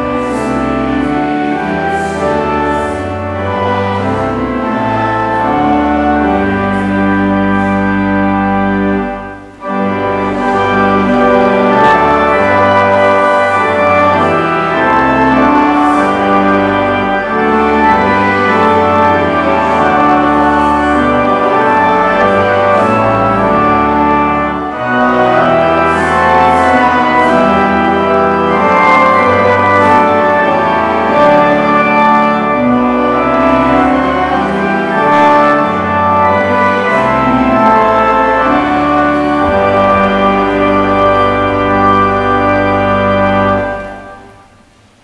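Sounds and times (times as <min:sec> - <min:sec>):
church organ playing a hymn: 0:00.0 - 0:45.0.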